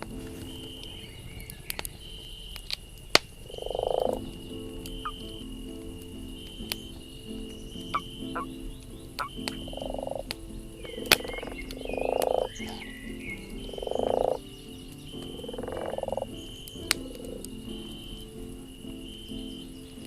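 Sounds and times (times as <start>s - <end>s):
campfire popping: 0.0s - 20.0s
frog croaking: 0.0s - 20.0s
high insect drone: 0.0s - 20.0s.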